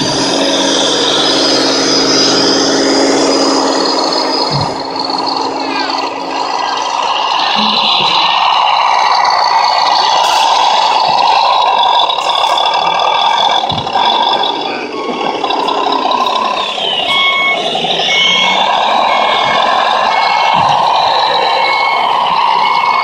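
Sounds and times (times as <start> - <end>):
short high reversing beeps: 0.0 - 23.0
steady noisy background: 0.0 - 23.0.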